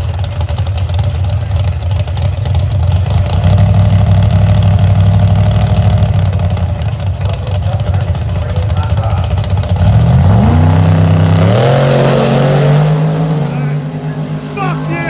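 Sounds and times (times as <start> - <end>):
loud engine running: 0.0 - 15.0.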